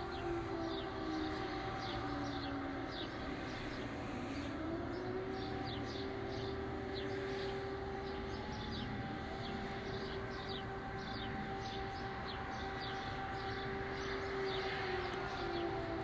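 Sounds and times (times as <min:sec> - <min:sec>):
air-raid siren wailing: 0:00.0 - 0:16.0.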